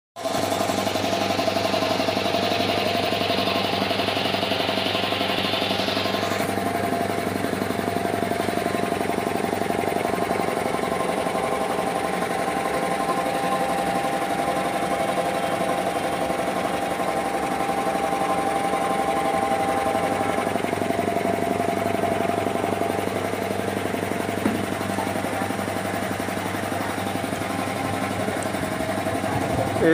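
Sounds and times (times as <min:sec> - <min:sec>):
air compressor pumping: 0:00.2 - 0:29.9.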